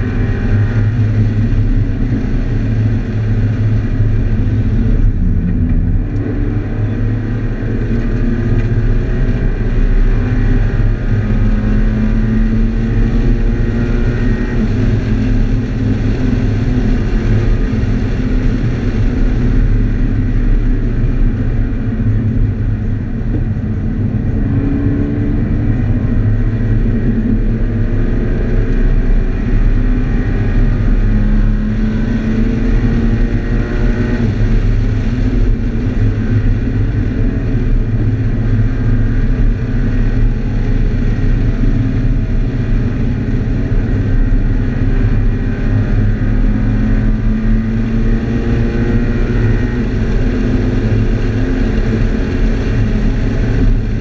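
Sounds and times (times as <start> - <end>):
car engine revving: 0.0 - 54.0
low road rumble: 0.0 - 54.0.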